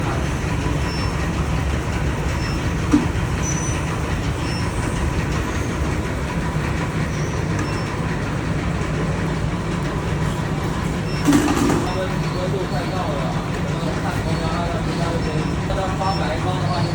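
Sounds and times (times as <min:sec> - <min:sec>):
low machine rumble: 0:00.0 - 0:16.9.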